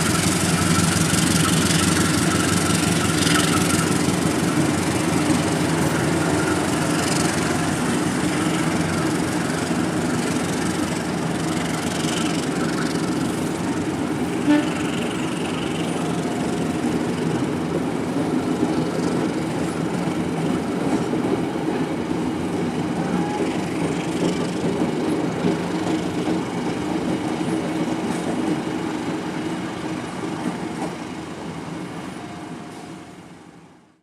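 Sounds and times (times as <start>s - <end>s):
train wheels clacking on rails: 0.0s - 33.1s
locomotive engine drone: 0.0s - 33.9s.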